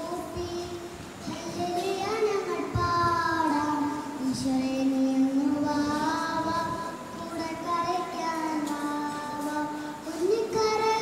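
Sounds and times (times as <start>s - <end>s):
girl singing into a microphone: 0.0s - 11.0s.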